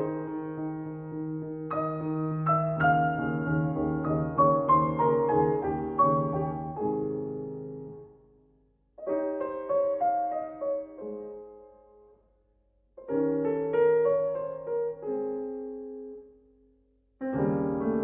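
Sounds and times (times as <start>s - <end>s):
solo piano playing: 0.0s - 8.4s, 9.0s - 12.2s, 13.0s - 16.6s, 17.2s - 18.0s.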